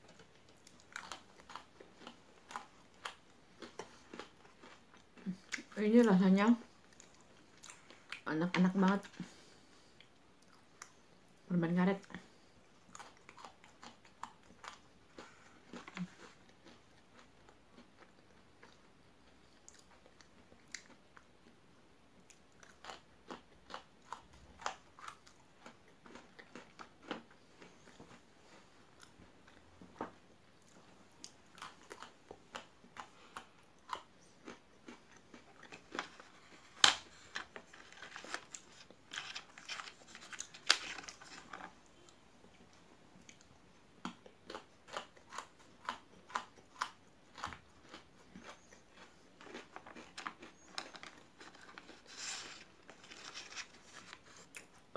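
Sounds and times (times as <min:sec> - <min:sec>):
biting and chewing biscuit sticks: 0:00.0 - 0:05.8, 0:12.8 - 0:21.6, 0:22.2 - 0:30.0, 0:30.6 - 0:54.9.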